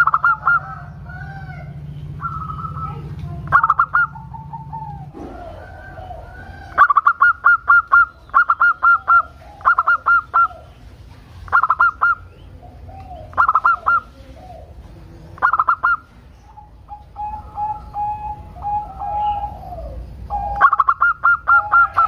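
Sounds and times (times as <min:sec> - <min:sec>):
dove cooing song: 0:00.0 - 0:22.0.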